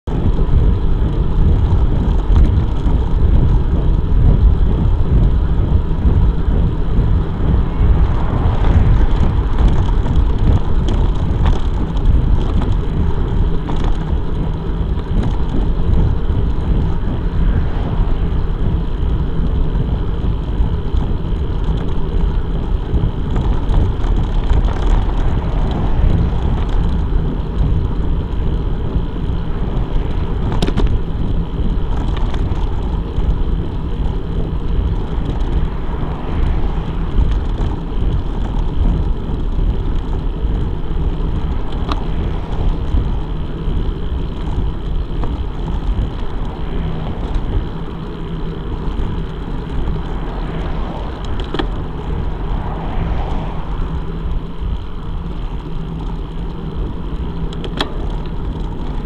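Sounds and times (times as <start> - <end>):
wind buffeting a microphone: 0.0 - 59.0.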